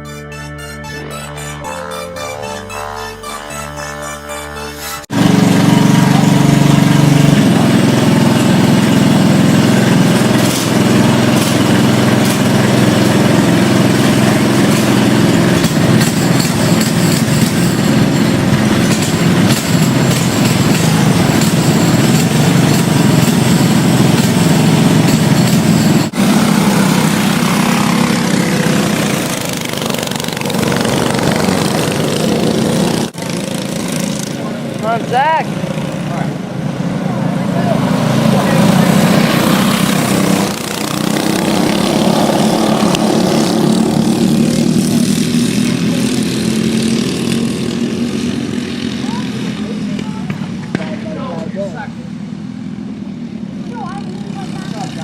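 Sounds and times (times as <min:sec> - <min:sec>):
go-kart engines at high revs: 0:00.0 - 0:55.0.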